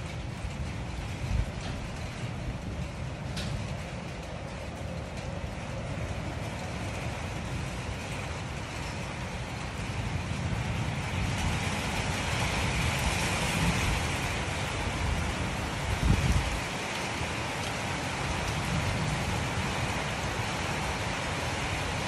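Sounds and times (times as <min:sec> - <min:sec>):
storm wind rushing: 0:00.0 - 0:22.0
wind buffeting microphone: 0:00.0 - 0:22.0.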